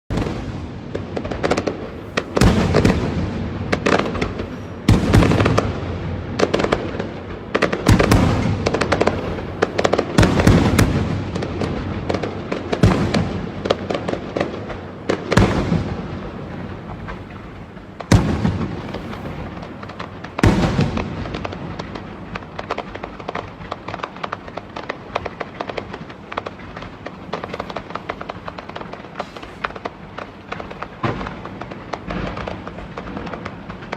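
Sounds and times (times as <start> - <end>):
fireworks booming: 0.1 - 33.9
fireworks crackling: 0.1 - 33.9
small pops and crackles: 0.2 - 33.9.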